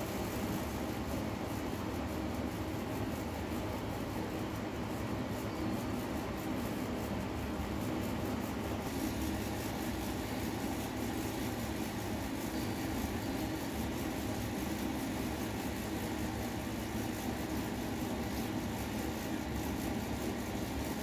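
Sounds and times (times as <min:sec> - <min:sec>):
low mechanical hum with hiss: 0:00.0 - 0:21.0.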